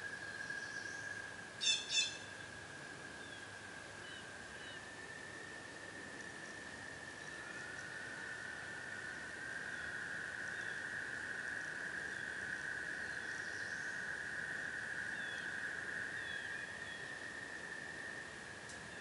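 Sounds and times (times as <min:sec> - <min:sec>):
tree frogs trilling: 0:00.0 - 0:19.0.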